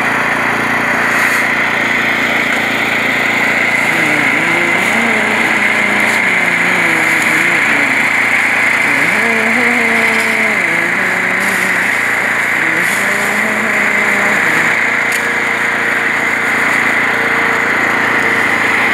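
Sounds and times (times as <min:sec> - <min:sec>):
small gasoline engine running: 0:00.0 - 0:18.9.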